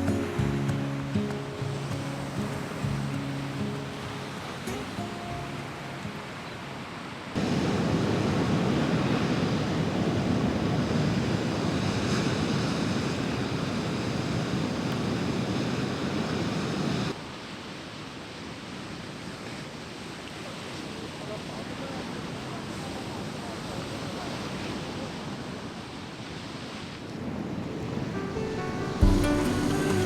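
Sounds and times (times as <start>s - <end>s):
ocean waves breaking: 0.0s - 17.3s, 21.9s - 30.0s.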